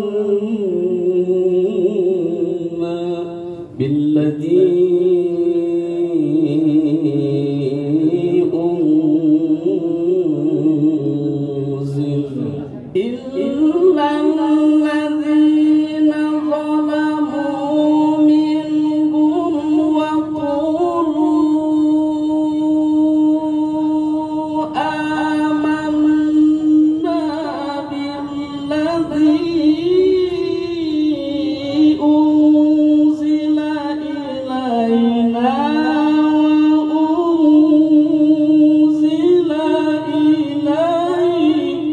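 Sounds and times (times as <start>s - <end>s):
man reciting melodically: 0.0s - 41.9s.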